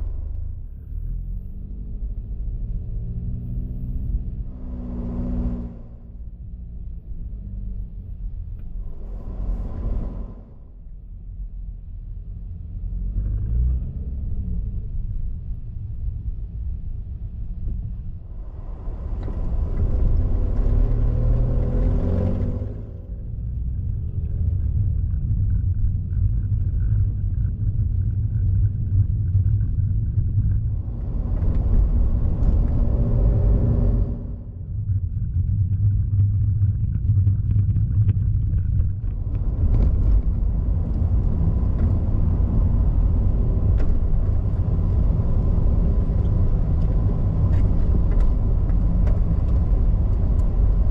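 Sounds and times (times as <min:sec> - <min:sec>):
car engine and tyre noise: 0:00.0 - 0:50.9.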